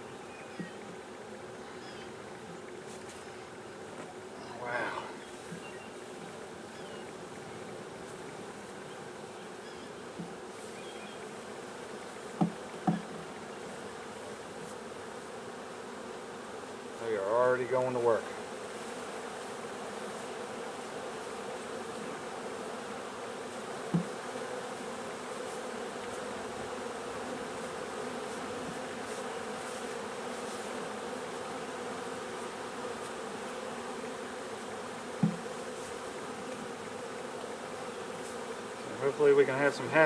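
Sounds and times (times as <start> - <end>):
bees buzzing: 0.3 - 40.0.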